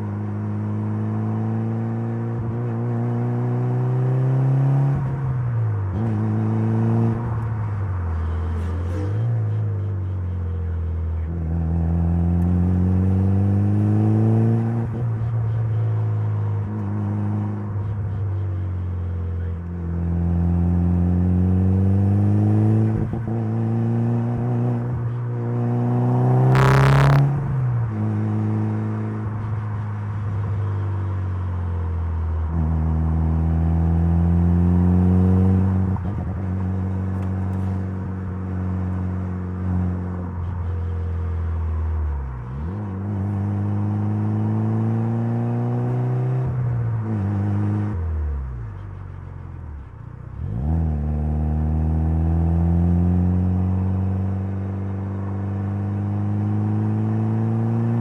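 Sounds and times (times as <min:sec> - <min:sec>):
car engine accelerating hard: 0:10.6 - 0:58.0.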